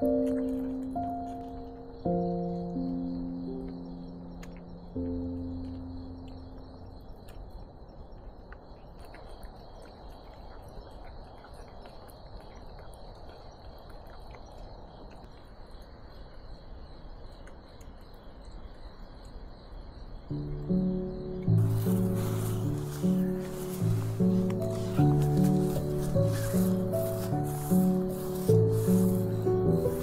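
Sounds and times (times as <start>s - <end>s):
crickets chirping: 0.0s - 30.0s
outdoor background hiss: 0.0s - 30.0s.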